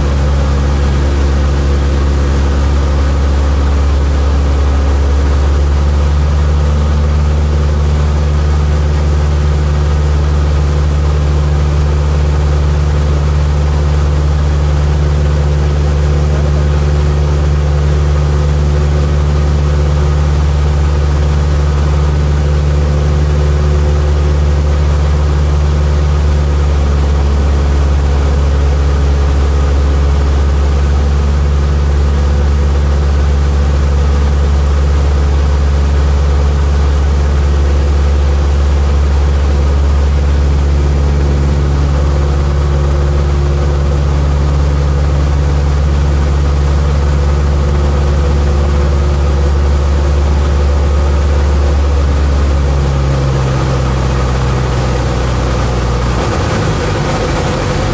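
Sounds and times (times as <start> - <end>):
light aircraft engine droning: 0.0 - 57.9.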